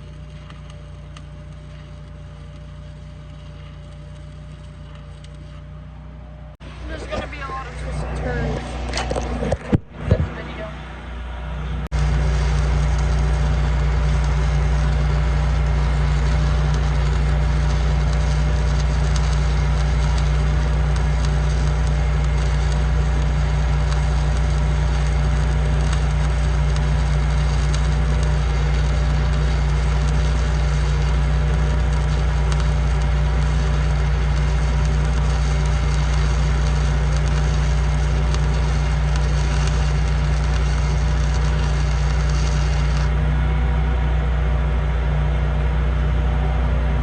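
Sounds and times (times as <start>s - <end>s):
welding arc crackling: 0.0s - 6.0s, 6.6s - 43.4s
low hum: 0.0s - 47.0s.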